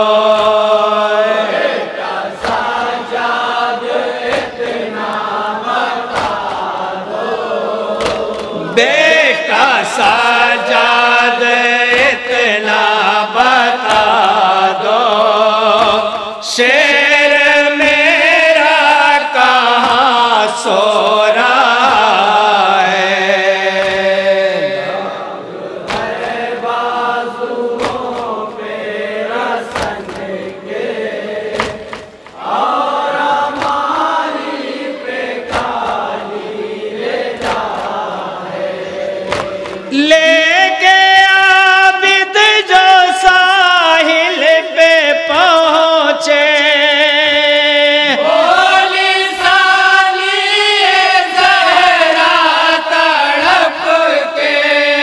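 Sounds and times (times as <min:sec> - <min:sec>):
men chanting through microphones: 0:00.0 - 0:55.0
sharp rhythmic slaps: 0:00.0 - 0:55.0.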